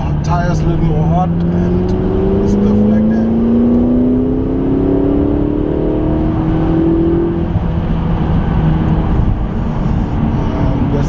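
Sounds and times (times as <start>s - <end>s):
car engine accelerating: 0.0s - 11.0s
heavy low rumble: 0.0s - 11.0s.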